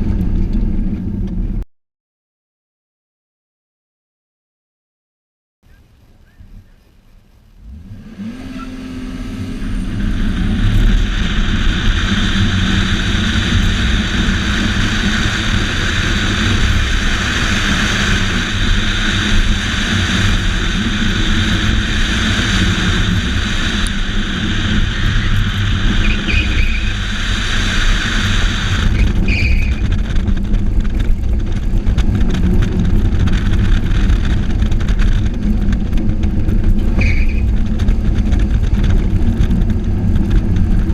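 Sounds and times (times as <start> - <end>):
car engine under load: 0.0 - 1.6, 5.8 - 40.9
road and wind noise: 0.0 - 1.6, 5.7 - 40.9.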